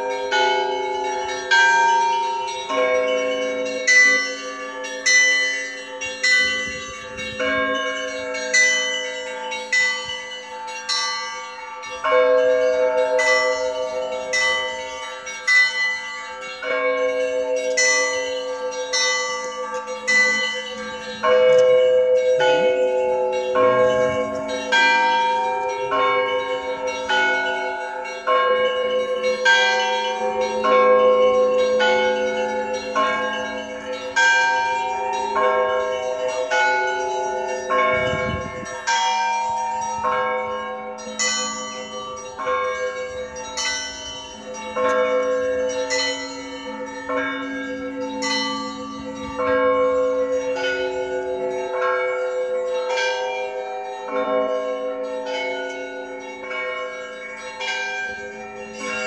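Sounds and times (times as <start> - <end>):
large low bells ringing: 0.0 - 59.0
small church bells struck quickly: 0.0 - 59.0.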